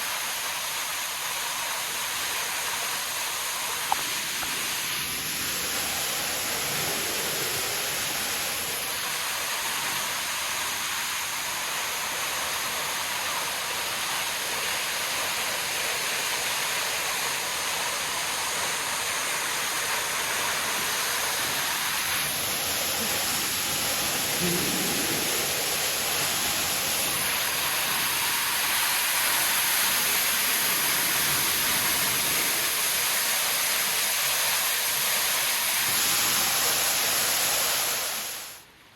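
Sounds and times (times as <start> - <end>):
waterfall rushing: 0.0 - 38.6.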